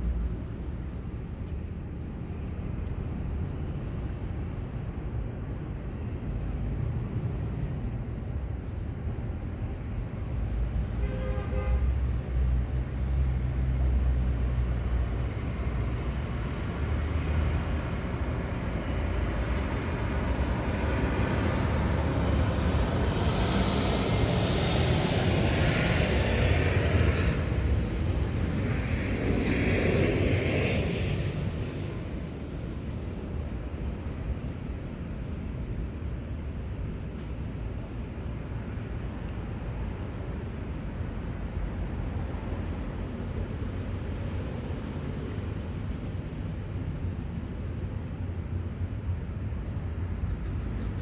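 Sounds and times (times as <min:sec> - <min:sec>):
airplane flying over: 0:00.0 - 0:51.0.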